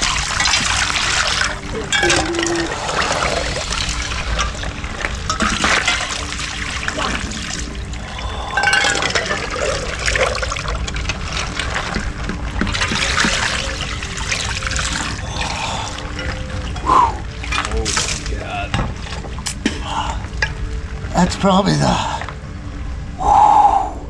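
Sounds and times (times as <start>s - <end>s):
pot scooping icy water: 0.0s - 20.5s
water poured and splashing: 0.0s - 22.4s.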